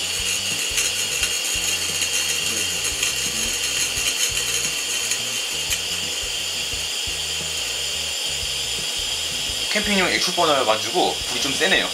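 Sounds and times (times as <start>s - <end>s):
gas burner hissing roar: 0.0s - 11.9s.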